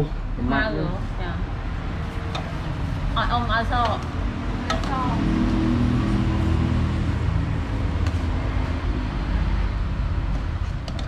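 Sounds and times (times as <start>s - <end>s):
engine hum: 0.0s - 11.0s
street traffic rumble: 0.0s - 11.0s.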